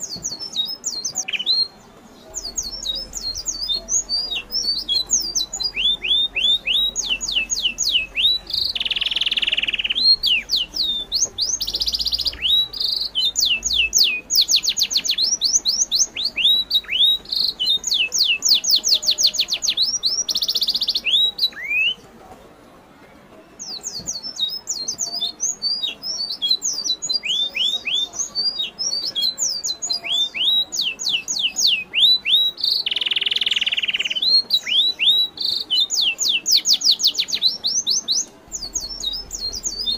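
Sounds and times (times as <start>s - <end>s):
birds chirping: 0.0s - 22.7s, 23.4s - 39.9s.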